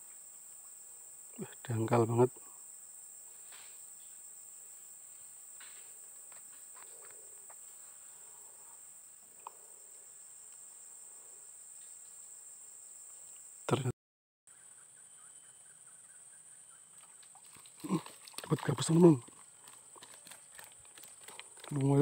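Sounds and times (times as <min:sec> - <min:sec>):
insects chorus: 0:00.0 - 0:13.9, 0:14.5 - 0:22.0.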